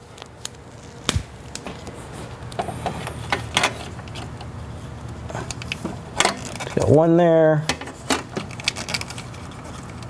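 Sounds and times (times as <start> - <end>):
tape crackles and clicks: 0.0 - 6.9, 7.8 - 10.0.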